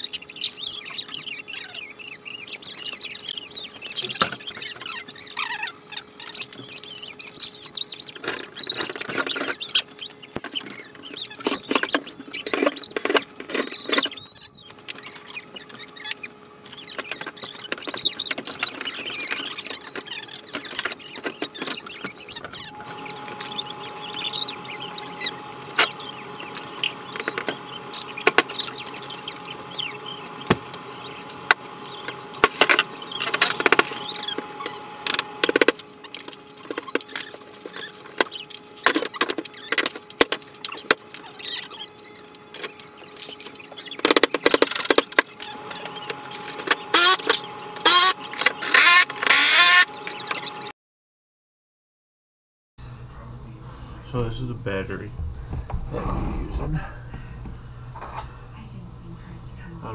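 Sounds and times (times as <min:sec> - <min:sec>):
high squeaks: 0:00.0 - 0:50.7.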